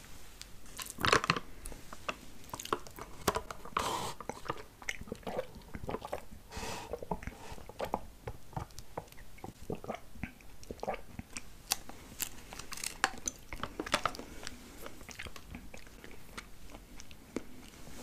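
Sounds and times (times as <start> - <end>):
wet chewing: 2.4 - 18.0.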